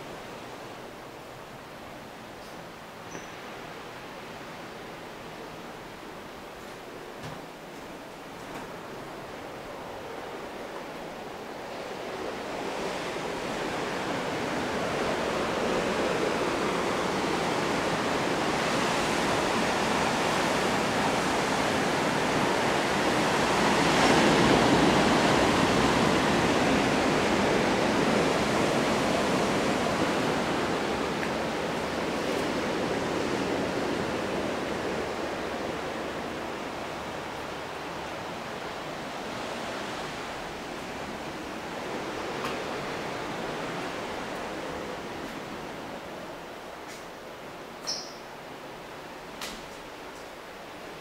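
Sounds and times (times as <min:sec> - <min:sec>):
ocean surf washing on shore: 0:00.0 - 0:51.0.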